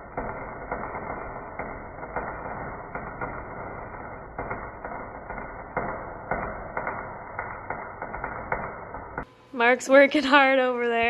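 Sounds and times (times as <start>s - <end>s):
sharp welding pops: 0.0s - 10.1s
arc welding crackle and sizzle: 0.0s - 11.0s.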